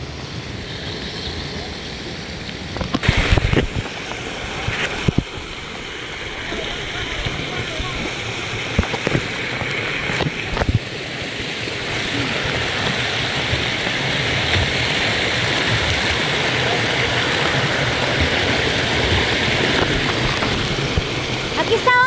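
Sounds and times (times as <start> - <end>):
water rushing over rock: 0.0 - 22.0.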